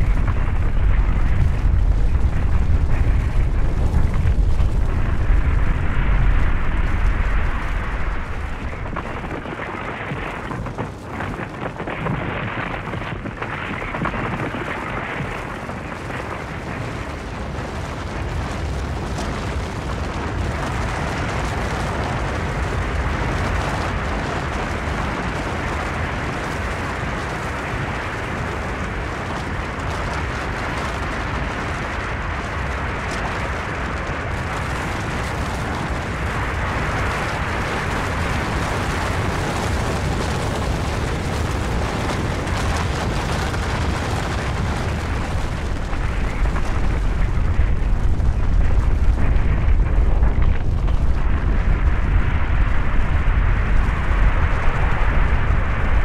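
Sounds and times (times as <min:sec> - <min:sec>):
avalanche rumbling and crumbling: 0:00.0 - 0:56.0.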